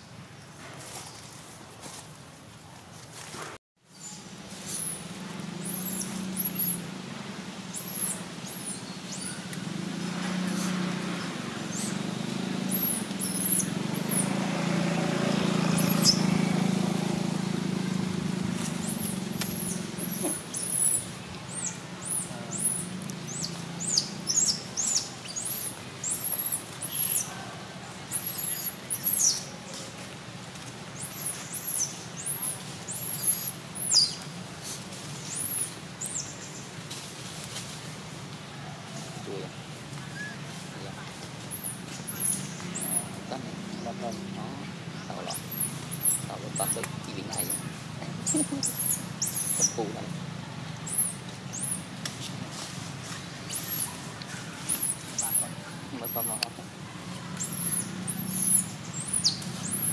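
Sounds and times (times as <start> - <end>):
small birds chirping: 3.8 - 37.7, 38.9 - 59.9.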